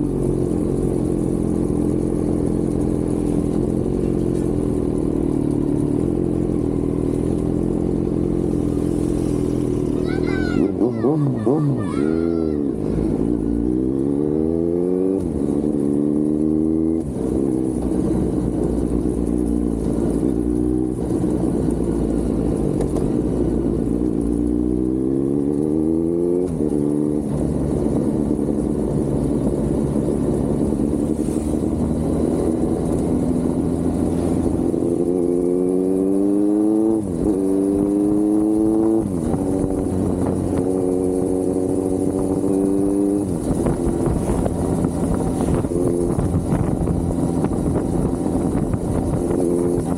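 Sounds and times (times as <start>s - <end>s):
motorcycle engine shifting gears: 0.0s - 11.9s, 12.6s - 49.9s.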